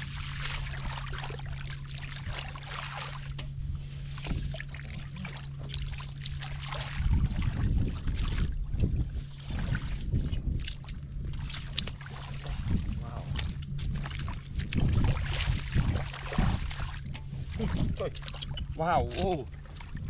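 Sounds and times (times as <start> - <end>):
hands sloshing in muddy water: 0.0 - 20.0
wind buffeting microphone: 3.2 - 20.0.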